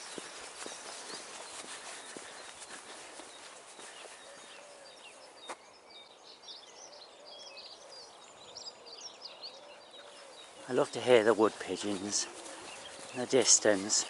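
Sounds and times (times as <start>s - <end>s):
wood pigeons cooing: 0.0s - 5.3s, 6.7s - 14.0s
songbirds chirping and trilling: 0.0s - 14.0s.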